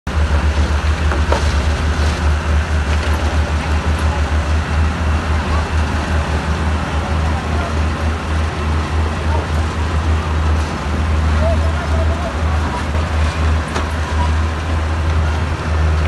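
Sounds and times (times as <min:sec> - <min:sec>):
heavy machinery engine rumble: 0:00.1 - 0:16.0
machinery clatter: 0:00.1 - 0:16.0.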